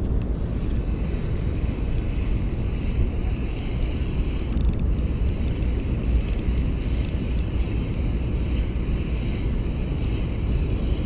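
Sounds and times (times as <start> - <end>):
wind buffeting microphone: 0.0 - 11.0
fishing reel whirring: 0.5 - 11.0
sharp ticks: 1.6 - 10.6.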